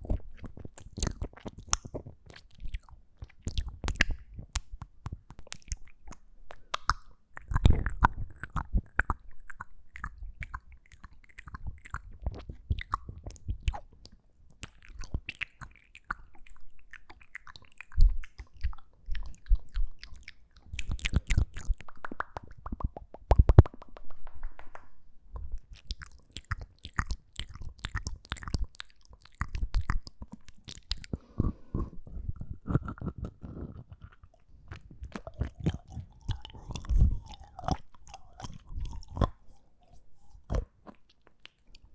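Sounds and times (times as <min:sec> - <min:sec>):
mouth clicks and smacks: 0:00.0 - 0:41.9.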